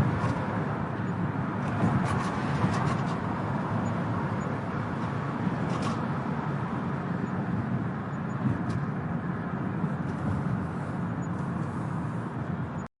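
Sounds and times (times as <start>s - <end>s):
rattly vehicle exhaust: 0.0s - 12.8s.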